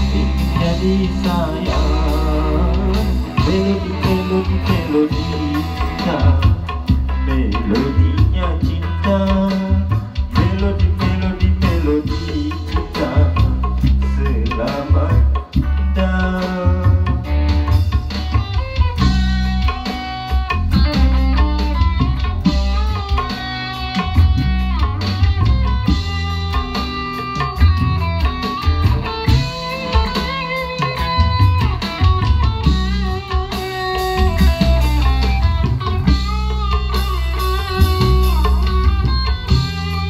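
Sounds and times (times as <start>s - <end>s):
bass guitar: 0.0s - 40.0s
electric guitar melody: 0.0s - 40.0s
hand drum: 0.0s - 40.0s.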